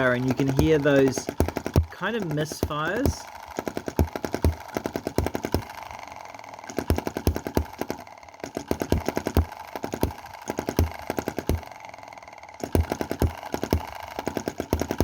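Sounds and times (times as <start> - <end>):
small engine firing irregularly: 0.0 - 15.0.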